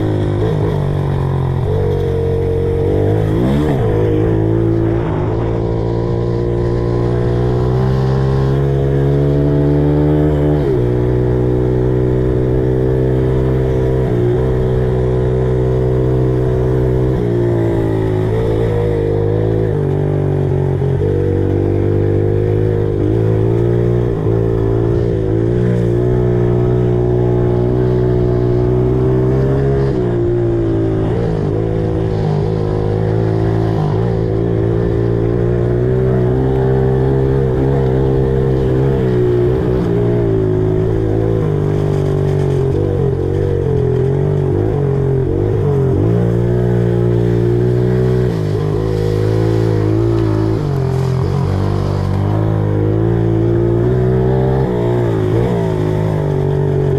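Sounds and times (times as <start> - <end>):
small motorcycle engine revving: 0.0 - 56.9.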